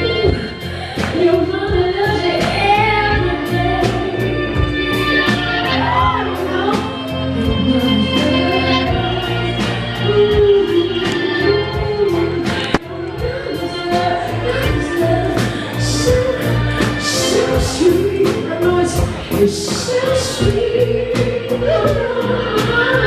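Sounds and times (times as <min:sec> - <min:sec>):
soul-rock band playing: 0:00.0 - 0:23.0
woman singing: 0:00.0 - 0:23.0.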